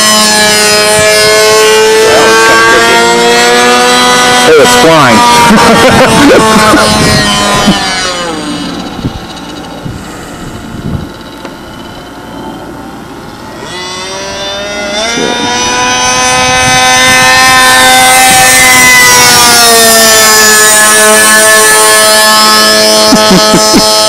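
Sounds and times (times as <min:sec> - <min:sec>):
model plane engine flying by: 0:00.0 - 0:24.0.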